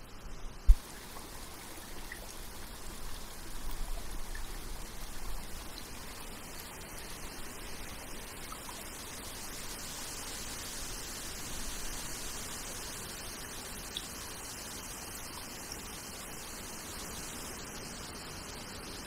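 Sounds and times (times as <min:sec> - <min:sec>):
stream water over stones: 0:00.6 - 0:19.0.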